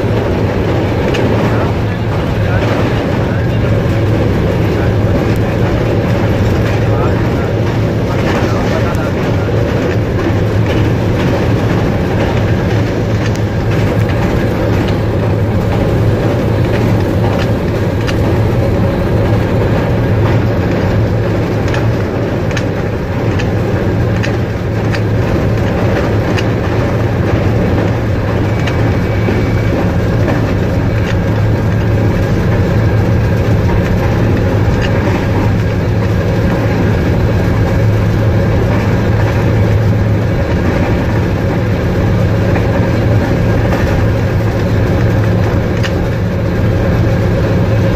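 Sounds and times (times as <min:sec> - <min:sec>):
clicking over rail joints: 0:00.0 - 0:47.9
train wheels rumbling on rails: 0:00.0 - 0:47.9.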